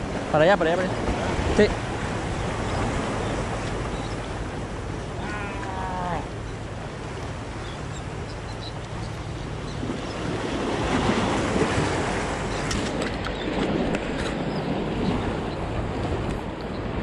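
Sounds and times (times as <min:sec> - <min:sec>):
surf washing against concrete: 0:00.0 - 0:07.6, 0:08.8 - 0:17.0
wind buffeting microphone: 0:00.0 - 0:17.0.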